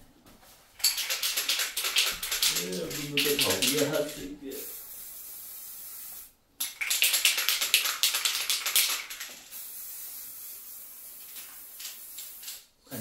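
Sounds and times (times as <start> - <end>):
spray paint can hissing: 0.8 - 12.7.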